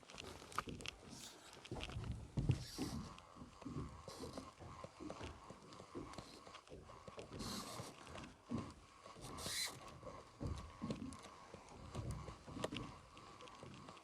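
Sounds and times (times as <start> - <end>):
fishing gear knocks and creaks: 0.0 - 14.0.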